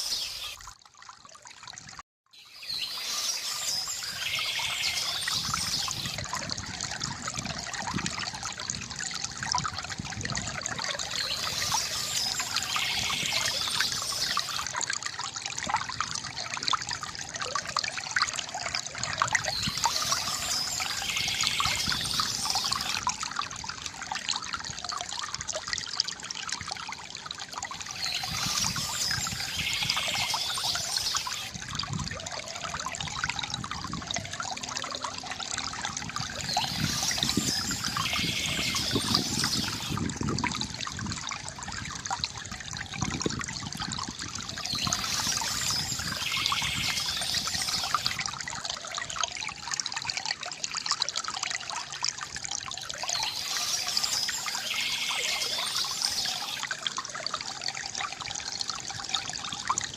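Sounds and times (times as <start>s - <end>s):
brighter water splashing: 0.0s - 59.9s
fountain water trickling and splashing: 0.0s - 59.9s.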